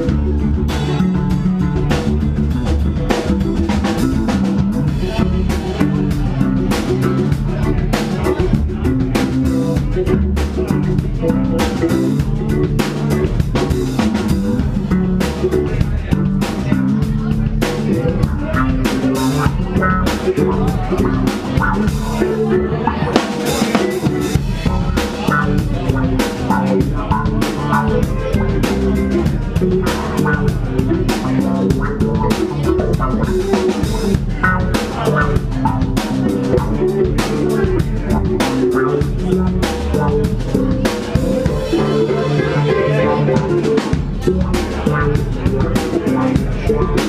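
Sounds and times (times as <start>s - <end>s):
live band playing: 0.0s - 47.0s.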